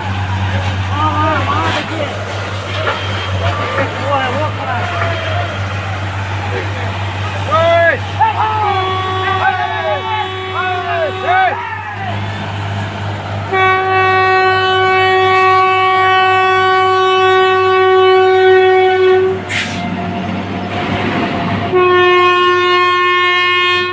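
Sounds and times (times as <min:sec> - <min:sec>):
railway horn blast: 0:00.0 - 0:20.2, 0:21.6 - 0:23.9
rushing noise: 0:00.0 - 0:23.4
low engine drone: 0:00.0 - 0:23.9.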